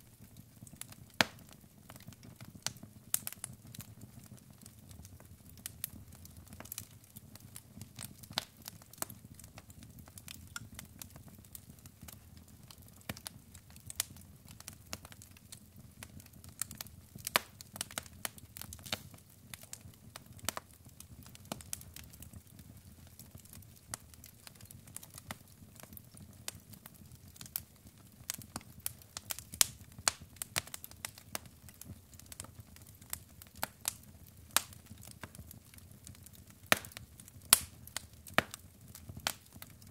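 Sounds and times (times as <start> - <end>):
burning logs crackling and popping: 0.0 - 39.9.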